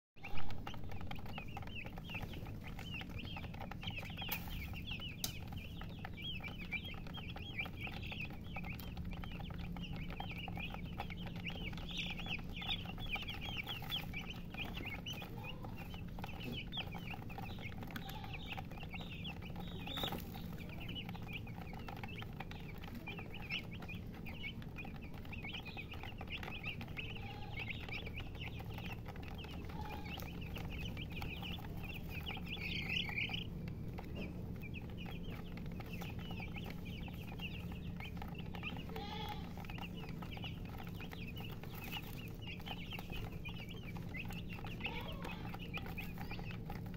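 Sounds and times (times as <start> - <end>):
chicks peeping: 0.2 - 46.9.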